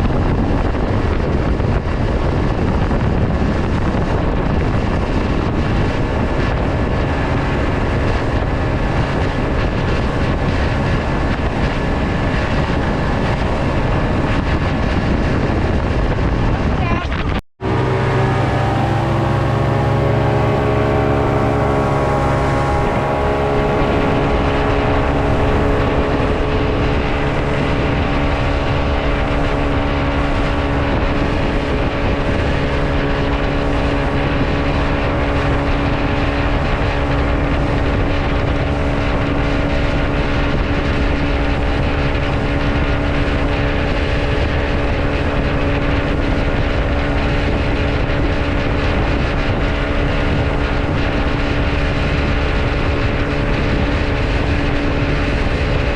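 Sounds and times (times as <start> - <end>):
motorboat engine running: 0.0 - 55.9
rushing water noise: 0.0 - 55.9.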